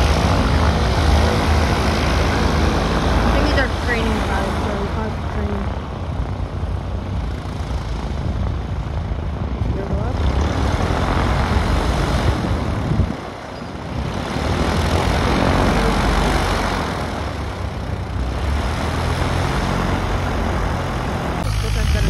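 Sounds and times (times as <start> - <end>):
distant light plane climbing: 0.0 - 22.0
propeller plane engine taxiing: 0.0 - 22.0.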